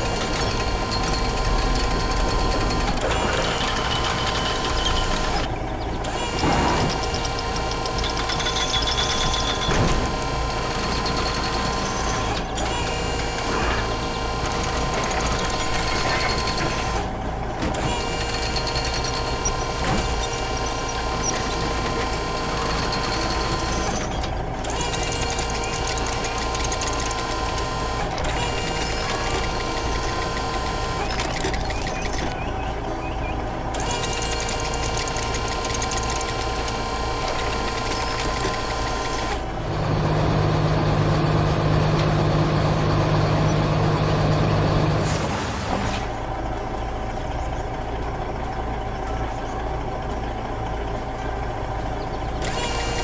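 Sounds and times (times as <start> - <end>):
engine-like hum: 0.0 - 53.0
mechanical whirring: 0.0 - 53.0.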